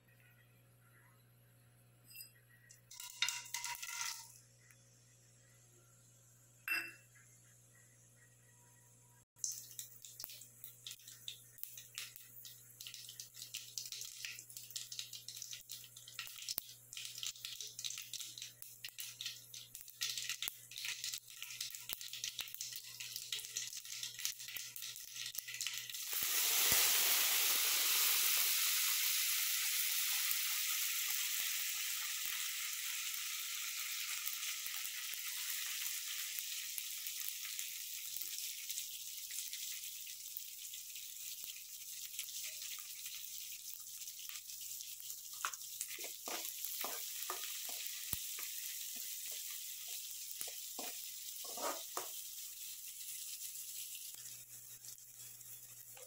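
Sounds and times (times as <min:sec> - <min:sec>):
hot oil crackling and popping: 0:02.8 - 0:04.4, 0:09.4 - 0:56.0
loud sizzle in oil: 0:09.4 - 0:56.0.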